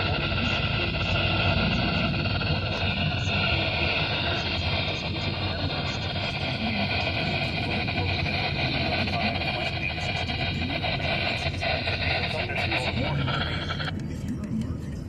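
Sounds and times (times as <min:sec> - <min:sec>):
low hum: 0:00.0 - 0:15.0
radio static hiss: 0:00.0 - 0:15.0.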